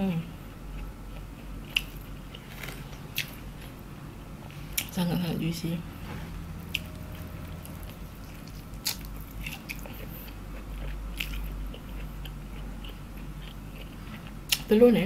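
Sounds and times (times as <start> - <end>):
person chewing: 0.4 - 3.8, 4.4 - 5.0, 6.6 - 14.7.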